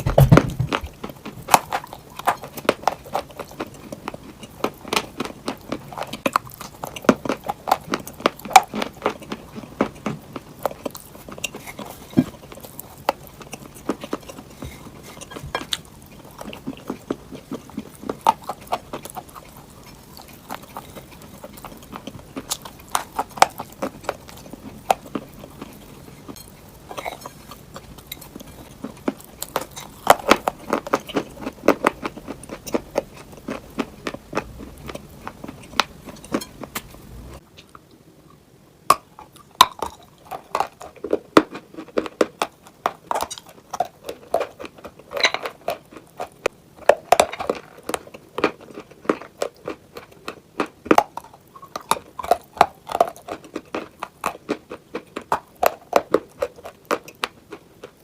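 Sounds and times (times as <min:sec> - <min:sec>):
crunching clay while chewing: 0:00.0 - 0:37.8, 0:38.9 - 0:58.0
low background hum: 0:00.0 - 0:58.0.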